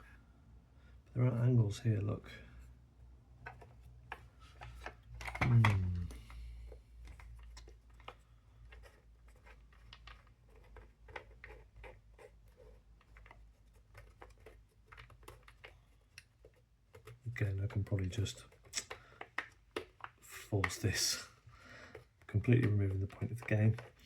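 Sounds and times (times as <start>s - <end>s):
puzzle pieces clicking and scraping: 3.4s - 24.0s.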